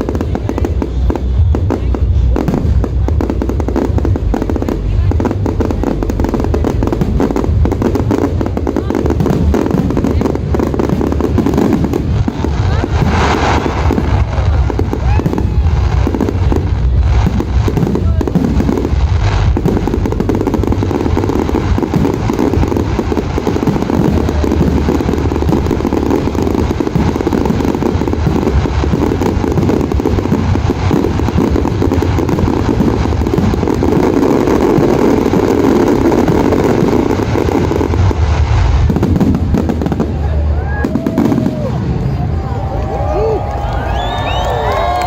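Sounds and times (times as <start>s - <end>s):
fireworks barrage rumbling: 0.0s - 45.0s.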